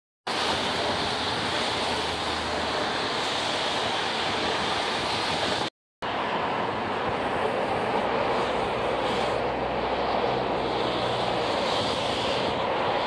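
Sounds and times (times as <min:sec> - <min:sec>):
trains rushing past on tracks: 0:00.3 - 0:13.0.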